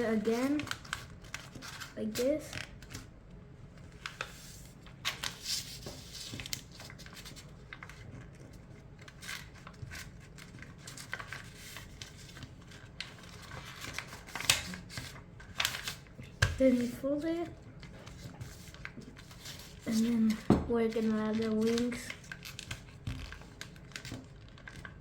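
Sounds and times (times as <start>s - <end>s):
paper being folded by hand: 0.0s - 3.1s, 3.8s - 25.0s.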